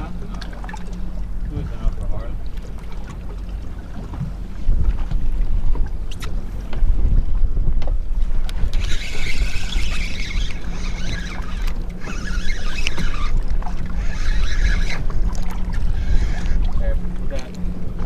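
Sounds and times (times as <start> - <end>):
boat engine rumble: 0.0 - 18.0
wind on microphone: 1.1 - 18.0.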